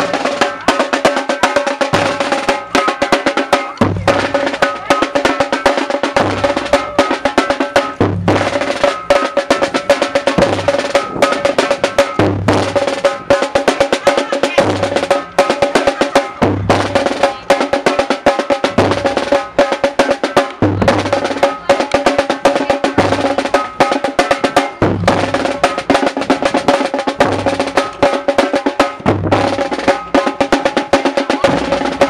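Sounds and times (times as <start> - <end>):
deep drum hits: 0.0 - 32.0
snare drum strokes and rolls: 0.0 - 32.0.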